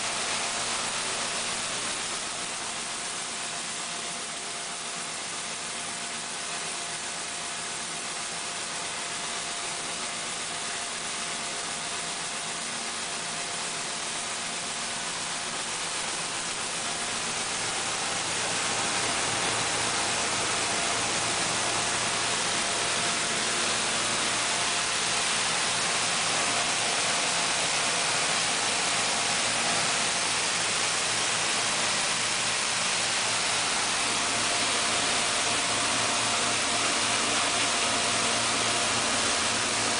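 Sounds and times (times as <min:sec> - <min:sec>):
rice milling machine running: 0:00.0 - 0:39.9
rice pouring rushing noise: 0:00.0 - 0:39.9.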